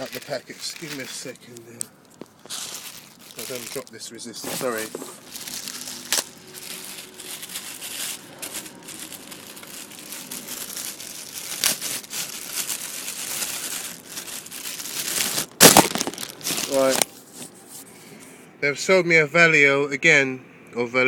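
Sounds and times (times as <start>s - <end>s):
plastic packaging crinkling: 0.0s - 17.5s.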